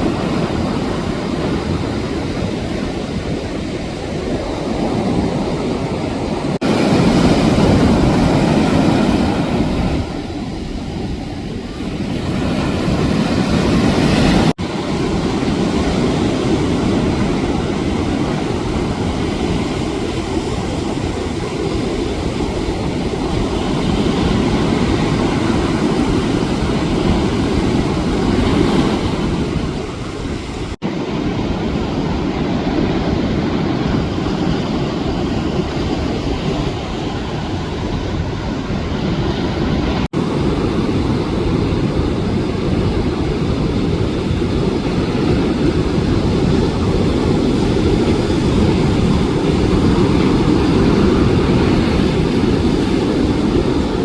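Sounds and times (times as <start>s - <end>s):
ocean surf rushing: 0.0s - 54.0s
wind on microphone: 0.0s - 54.0s.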